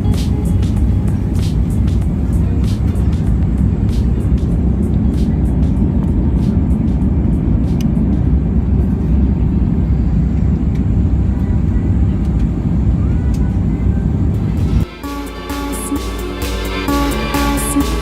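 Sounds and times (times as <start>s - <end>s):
airliner cabin engine rumble: 0.0s - 14.9s.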